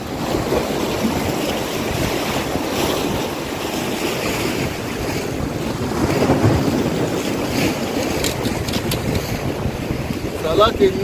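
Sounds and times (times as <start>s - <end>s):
sea waves washing against rocks: 0.0s - 11.0s
wind blowing across microphone: 0.0s - 11.0s.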